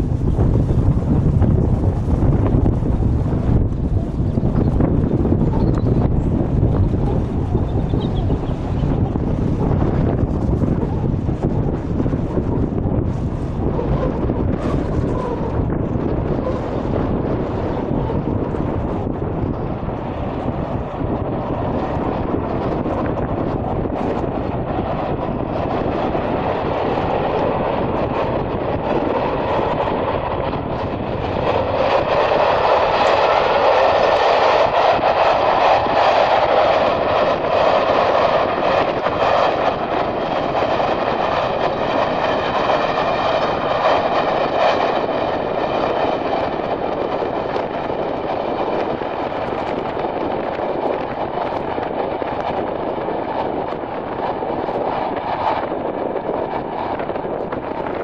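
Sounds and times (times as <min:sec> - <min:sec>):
diesel train passing: 0:00.0 - 0:58.0
wind buffeting microphone: 0:00.0 - 0:58.0.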